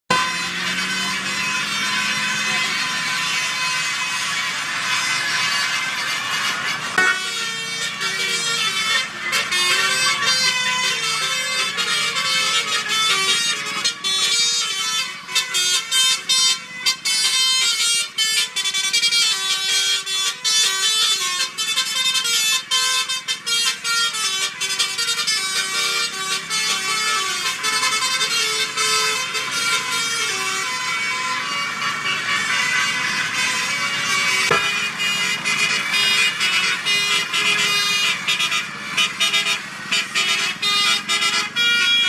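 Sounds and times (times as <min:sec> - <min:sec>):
multi-tone air horn tune: 0:00.1 - 0:42.0.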